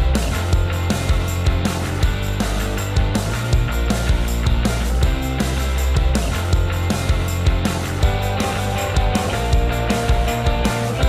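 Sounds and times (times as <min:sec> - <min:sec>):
rock music: 0:00.0 - 0:11.0.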